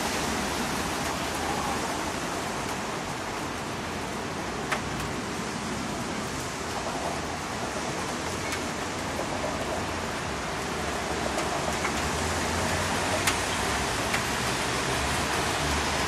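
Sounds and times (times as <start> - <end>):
rain falling on street: 0.0 - 16.0
traffic rumble: 0.0 - 16.0.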